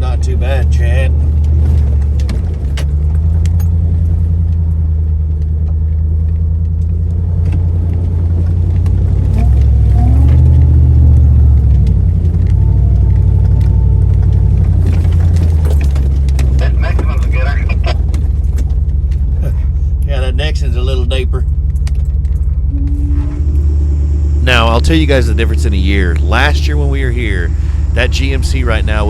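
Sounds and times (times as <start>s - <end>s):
vehicle engine running low: 0.0s - 29.0s.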